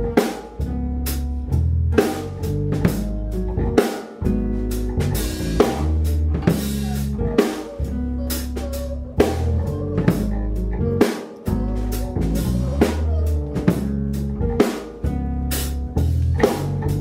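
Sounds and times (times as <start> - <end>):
drum kit beat: 0.0 - 17.0
instrumental band music: 0.0 - 17.0.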